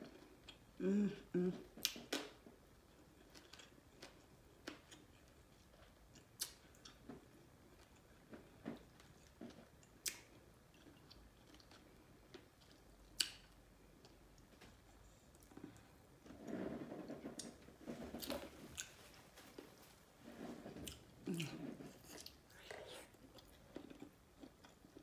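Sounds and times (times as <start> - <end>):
chewing soft food: 0.0 - 0.8, 1.5 - 25.0.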